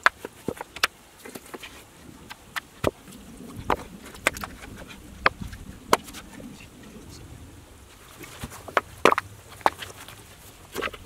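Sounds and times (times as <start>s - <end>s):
rock slabs clacking together: 0.0s - 6.3s, 8.1s - 11.0s.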